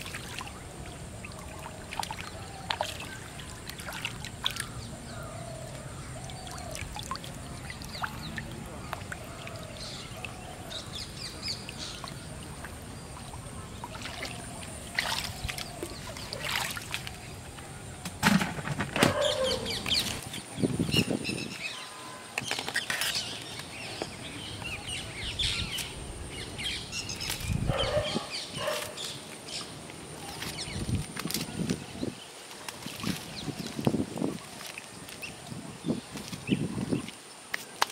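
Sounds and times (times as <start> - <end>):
splashes in shallow water: 0.0 - 23.9, 26.6 - 37.9
birds chirping: 0.4 - 18.1, 19.0 - 33.8.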